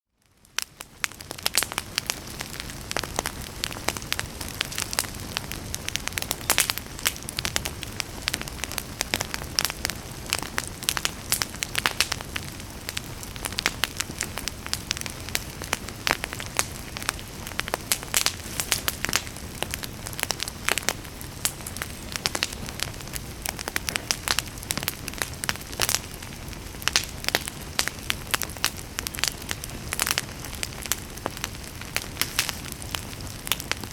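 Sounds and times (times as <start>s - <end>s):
campfire crackling and popping: 0.2s - 33.9s.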